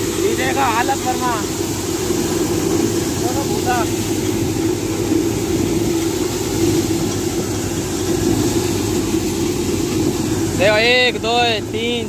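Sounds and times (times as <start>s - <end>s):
thresher machine drone: 0.0s - 12.0s.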